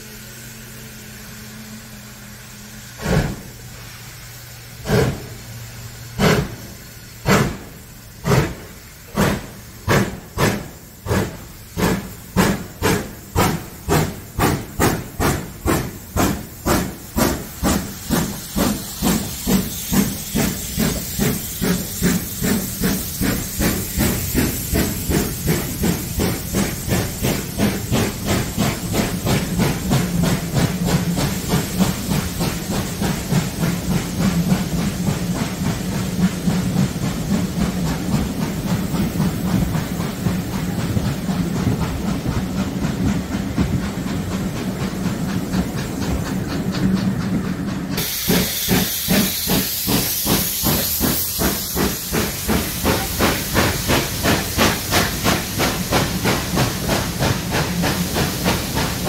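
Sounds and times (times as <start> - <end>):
steam hissing: 0.0 - 59.0
steam locomotive exhaust beats: 0.0 - 59.0.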